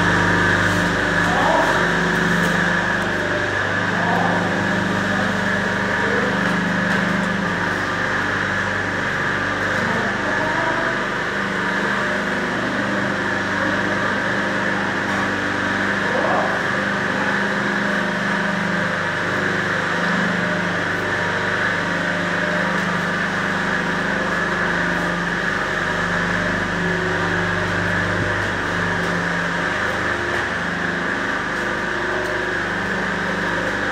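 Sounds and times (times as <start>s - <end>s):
cutting machine hum and whine: 0.0s - 33.9s.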